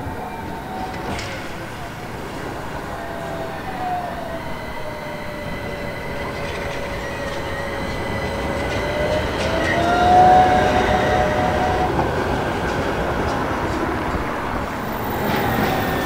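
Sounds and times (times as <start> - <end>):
tram low rumble: 0.0 - 16.0
tram wheels squealing: 0.0 - 16.0.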